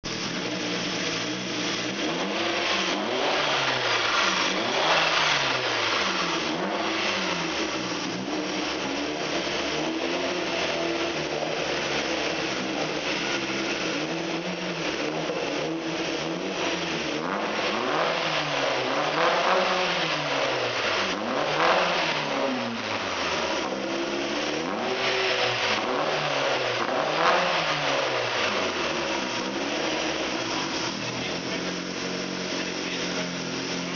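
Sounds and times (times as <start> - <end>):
turbocharged engine revving: 0.0 - 33.9.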